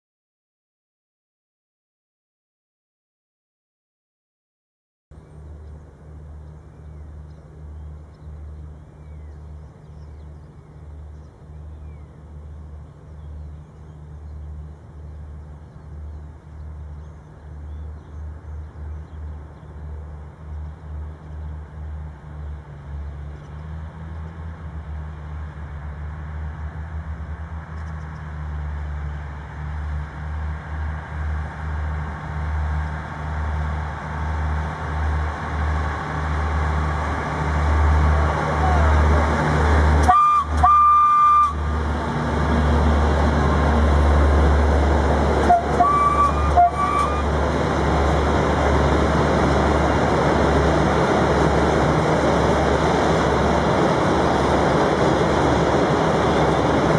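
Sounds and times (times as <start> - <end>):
locomotive engine pulsing drone: 5.2 - 56.9.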